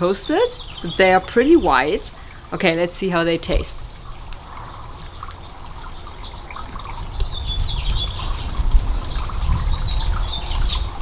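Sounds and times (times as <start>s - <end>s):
small birds twittering: 0.0s - 2.9s, 3.5s - 11.0s.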